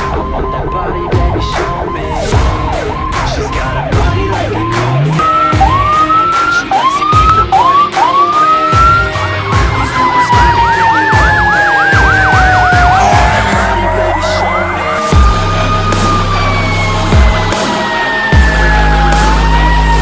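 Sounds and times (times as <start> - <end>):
fire engine siren whoops: 0.0 - 20.0
siren wail falling in pitch: 0.0 - 20.0
fast yelp siren: 1.7 - 20.0.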